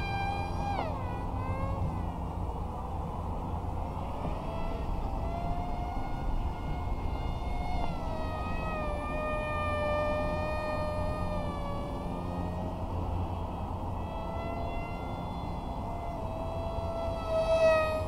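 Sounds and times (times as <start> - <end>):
electric model plane motor whining: 0.0 - 18.0
wind rumble on microphone: 0.0 - 18.0.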